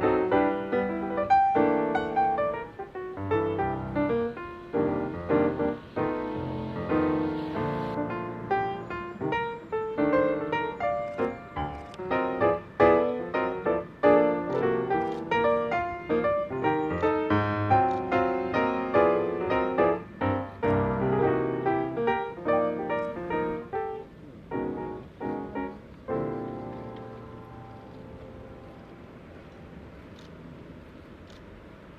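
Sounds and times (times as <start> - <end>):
piano music: 0.0 - 29.4
faint hiss: 0.0 - 31.9.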